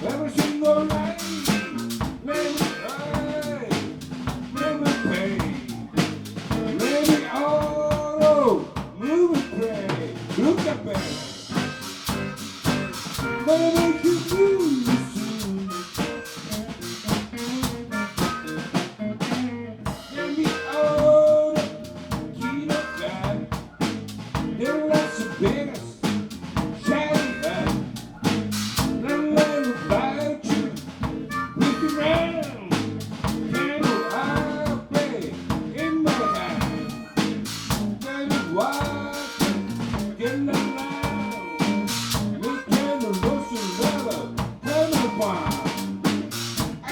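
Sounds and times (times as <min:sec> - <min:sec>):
drum kit beat: 0:00.0 - 0:46.9
live band music: 0:00.0 - 0:46.9.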